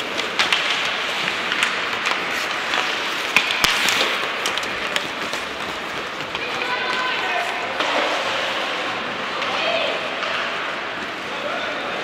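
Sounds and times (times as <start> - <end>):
hockey sticks and puck clacking: 0.0 - 11.3
skates scraping on ice: 0.0 - 11.3.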